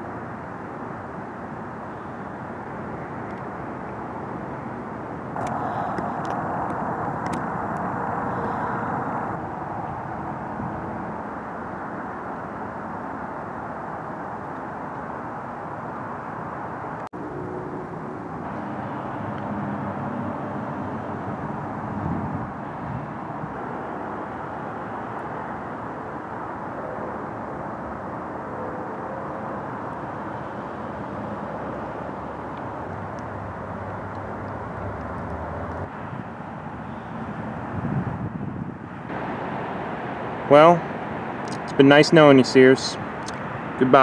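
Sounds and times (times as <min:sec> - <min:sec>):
distant road traffic: 0:00.0 - 0:44.0
vehicle engine hum: 0:00.0 - 0:44.0.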